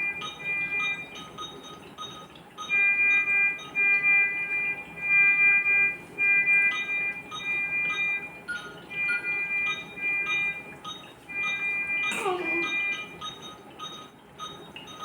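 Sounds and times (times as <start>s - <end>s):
medical equipment alarm beeps: 0.0s - 15.0s.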